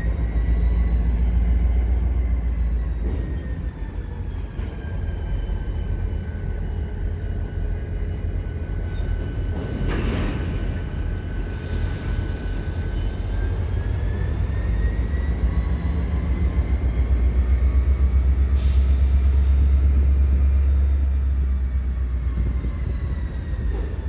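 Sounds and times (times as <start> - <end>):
locomotive engine rumble: 0.0 - 24.0.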